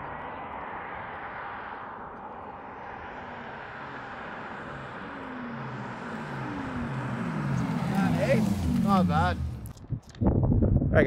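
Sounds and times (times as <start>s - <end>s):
car approaching: 0.0s - 10.1s.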